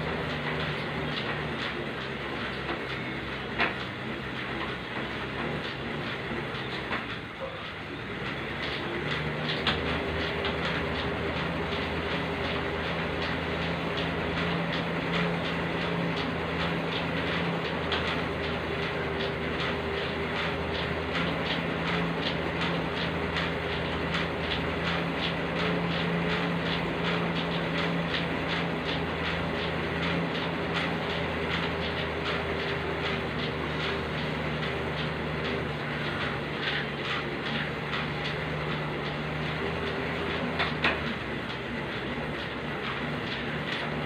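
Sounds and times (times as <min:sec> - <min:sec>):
cross-trainer mechanical hum: 0:00.0 - 0:44.0.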